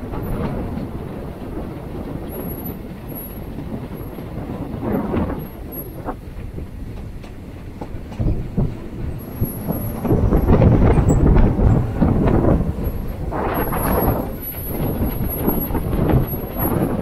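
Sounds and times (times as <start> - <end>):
clicks over rail joints: 0.0 - 17.0
wheels rumbling on rails: 0.0 - 17.0
wind rush: 0.0 - 17.0.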